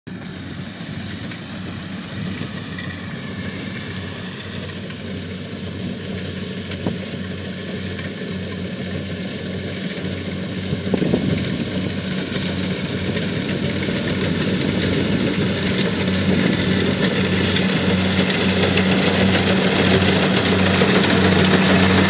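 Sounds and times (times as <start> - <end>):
distant diesel engine humming: 0.1 - 22.0.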